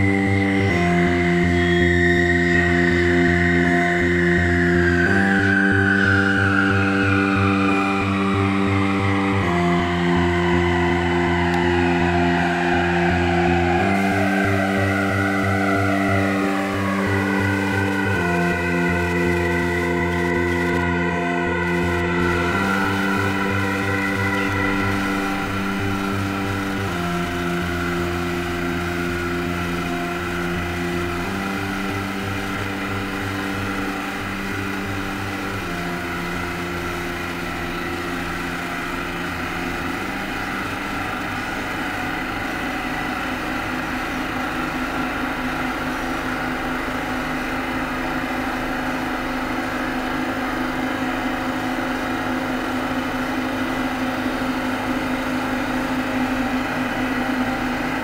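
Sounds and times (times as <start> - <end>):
low drone with pulsing texture: 0.0 - 58.0
sustained synthesizer chords: 0.0 - 58.0.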